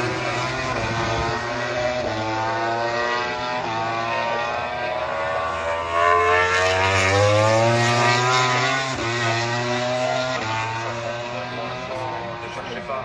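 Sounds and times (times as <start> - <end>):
race motorcycle accelerating: 0.0 - 13.0.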